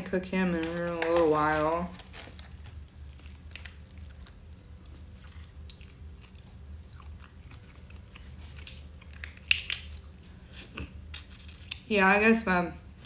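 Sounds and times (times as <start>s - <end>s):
crawfish shells crackling: 0.4s - 12.0s.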